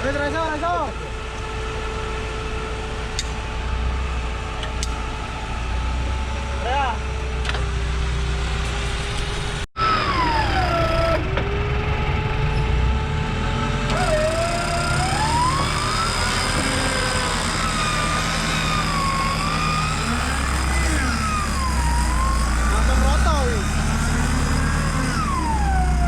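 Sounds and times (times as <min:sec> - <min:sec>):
off-road vehicle engine whining: 0:00.0 - 0:26.0.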